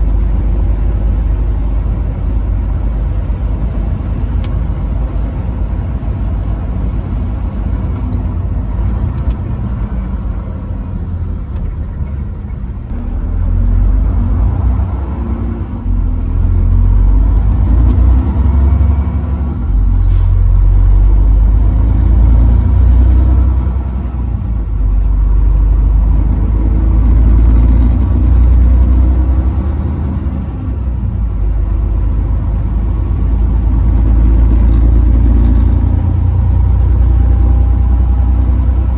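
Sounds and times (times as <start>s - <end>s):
truck engine rumble: 0.0s - 38.9s.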